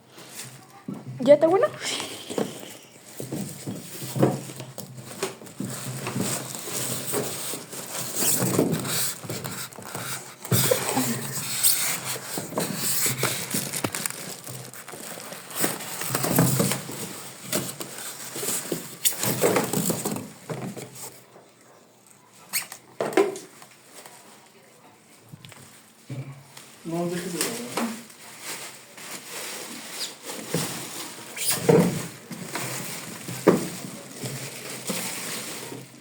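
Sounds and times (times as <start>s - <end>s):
plastic and cardboard crinkling: 0.1s - 21.5s, 25.4s - 36.0s.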